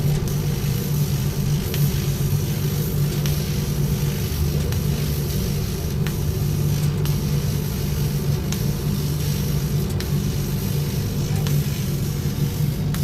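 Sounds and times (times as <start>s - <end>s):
faint irregular ticks: 0.0s - 12.0s
laser cutter humming and hissing: 0.0s - 13.0s.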